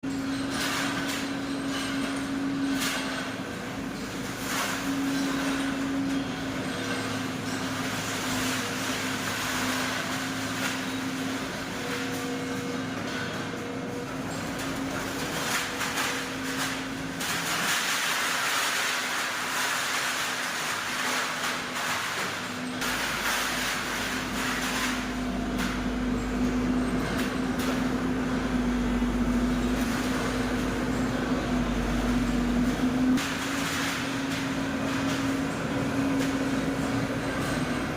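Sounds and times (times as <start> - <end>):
excavator engine and hydraulics: 0.0 - 37.9.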